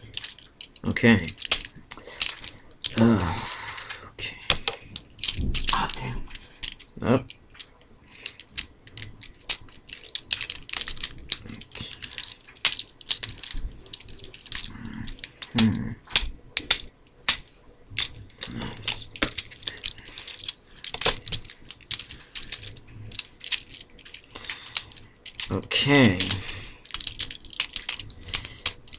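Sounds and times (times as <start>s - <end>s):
plastic action figure clicking: 0.1s - 3.2s, 8.2s - 28.9s.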